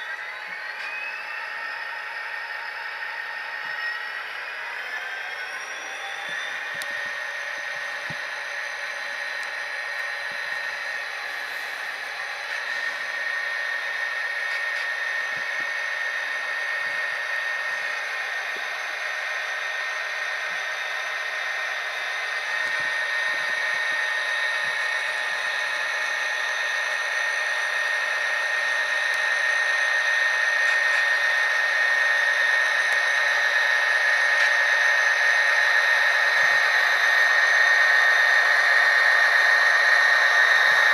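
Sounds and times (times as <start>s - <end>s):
model locomotive diesel engine sound: 0.0s - 40.9s.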